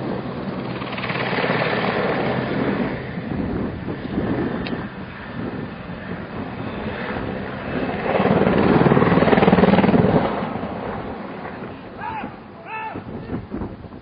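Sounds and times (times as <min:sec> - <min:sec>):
helicopter rotor chopping: 0:00.0 - 0:14.0.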